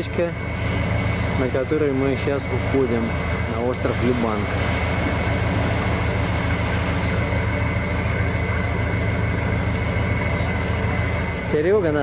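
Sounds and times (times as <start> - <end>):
boat engine idling: 0.0 - 12.0
thin constant whine: 0.0 - 12.0.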